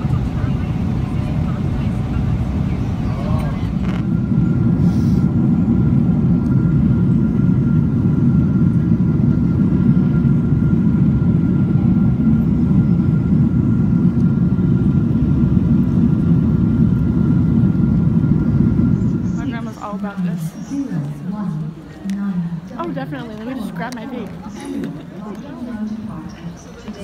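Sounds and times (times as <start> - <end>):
faint steady whine: 0.0 - 27.0
jet engine and airflow noise: 0.0 - 27.0.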